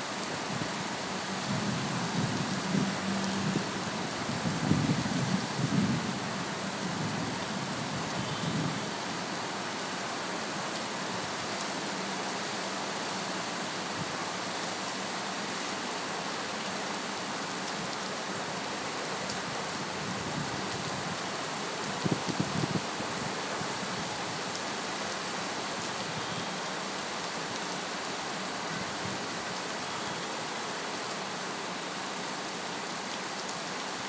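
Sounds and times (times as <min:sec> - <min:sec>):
heavy rain falling: 0:00.1 - 0:34.0.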